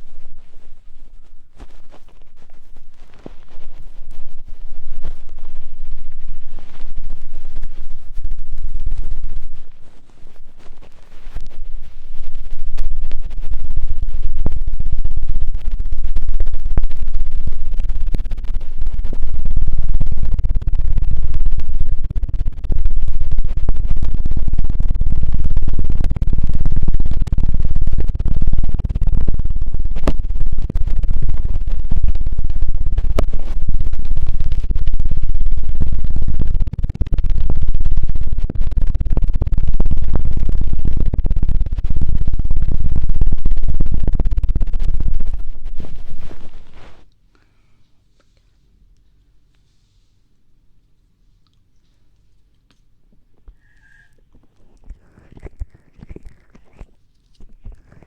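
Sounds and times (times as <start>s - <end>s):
fluttering rubs on microphone: 0.0s - 47.1s, 54.6s - 58.0s.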